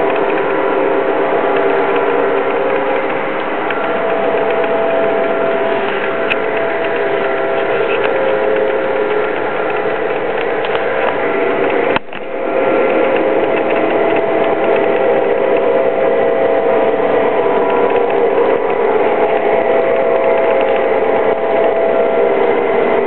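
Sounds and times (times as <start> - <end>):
model train motors whirring: 0.0 - 23.0
wheels clicking over rails: 0.0 - 23.0.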